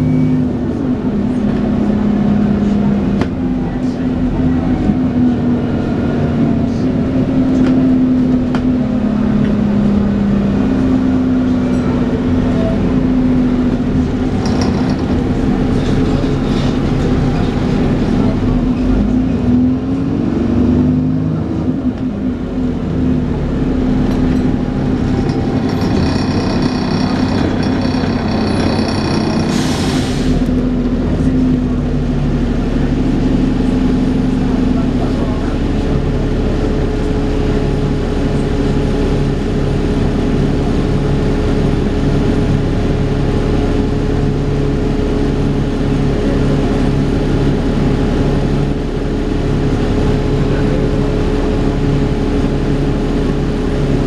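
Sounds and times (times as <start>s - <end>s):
bus engine hum: 0.0s - 54.0s.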